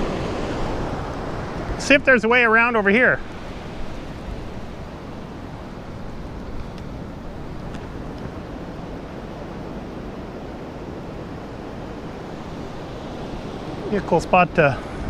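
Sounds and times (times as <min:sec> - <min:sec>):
surf washing over rocky beach: 0:00.0 - 0:15.0.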